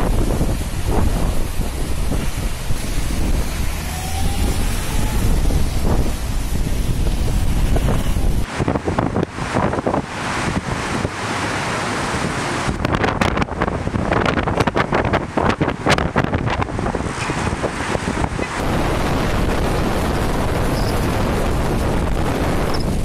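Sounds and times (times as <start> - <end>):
heavy surf breaking on rocks: 0.0 - 14.3, 17.2 - 23.0
storm wind buffeting microphone: 0.0 - 23.0.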